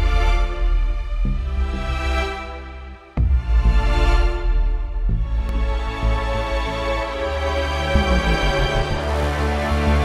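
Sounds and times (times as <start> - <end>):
soundtrack music with deep bass: 0.0 - 10.0.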